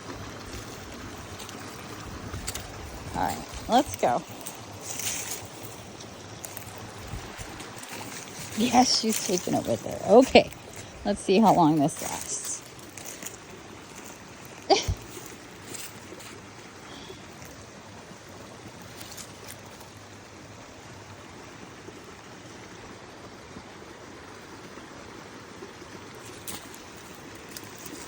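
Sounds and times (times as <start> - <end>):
creek flowing: 0.0 - 28.0.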